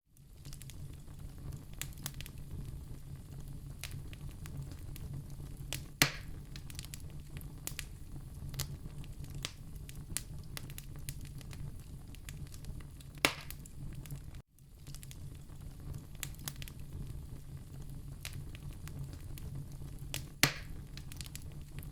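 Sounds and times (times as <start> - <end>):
low rumble of flames: 0.1 - 21.9
wood fire crackling: 0.1 - 21.9
loud pops of fire: 0.2 - 21.9.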